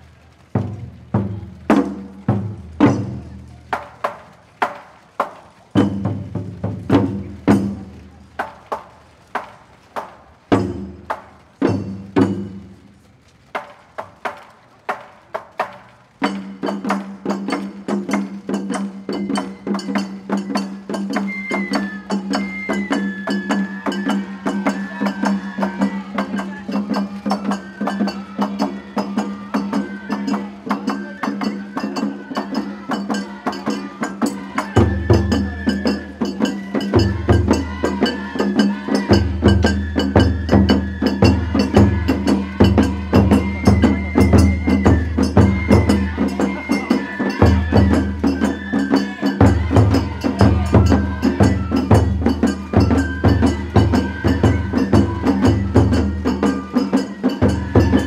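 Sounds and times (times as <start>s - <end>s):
clacking percussion rhythm: 0.0s - 58.0s
deep taiko drum strokes: 0.0s - 58.0s.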